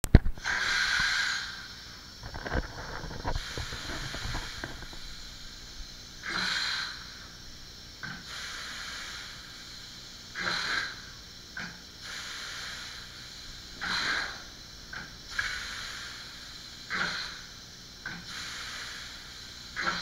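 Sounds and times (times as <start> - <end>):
compressed air hissing: 0.3 - 20.0.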